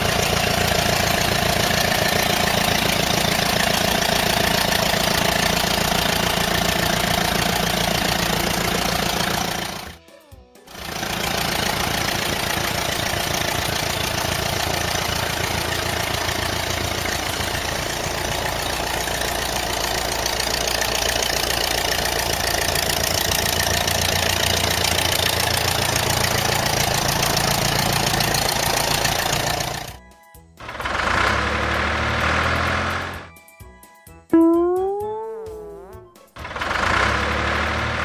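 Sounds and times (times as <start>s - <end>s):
cartoon vehicle engine running: 0.0s - 10.0s, 10.7s - 30.0s, 30.6s - 33.3s, 34.3s - 38.0s.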